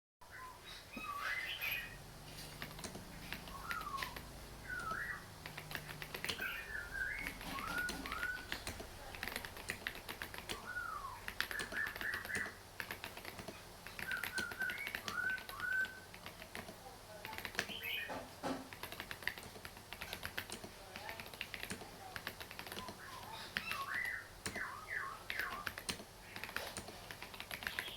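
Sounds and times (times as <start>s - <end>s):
mechanical keyboard key clicks: 2.6s - 17.8s, 18.7s - 27.9s.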